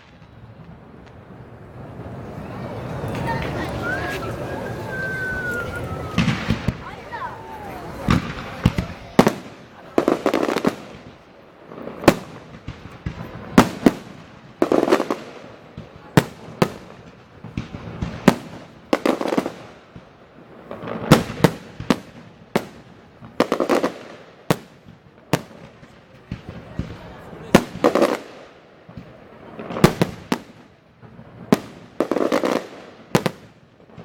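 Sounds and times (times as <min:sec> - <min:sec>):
fireworks bangs with crackling: 0:00.0 - 0:34.0.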